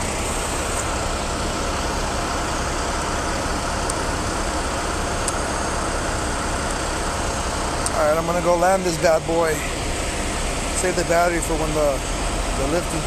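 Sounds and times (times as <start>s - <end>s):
diesel trucks idling: 0.0s - 13.0s.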